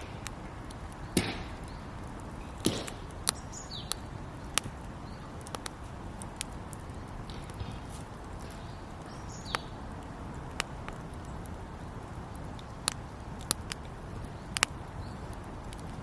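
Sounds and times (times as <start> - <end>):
burning wood popping: 0.0 - 16.0
campfire crackling: 0.0 - 16.0
low fire hiss: 0.0 - 16.0.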